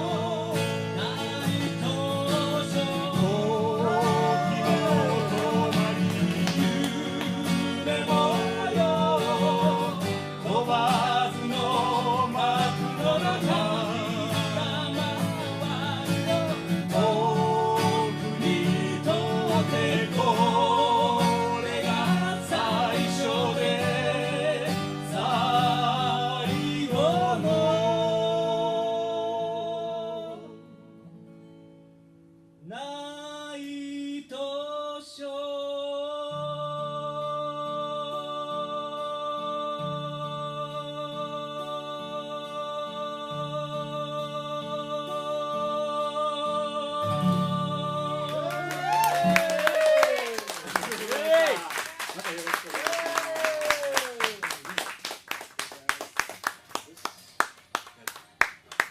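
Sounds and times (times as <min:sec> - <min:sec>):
person singing: 0:00.0 - 0:30.6, 0:32.7 - 0:50.5
acoustic guitar: 0:00.0 - 0:58.9.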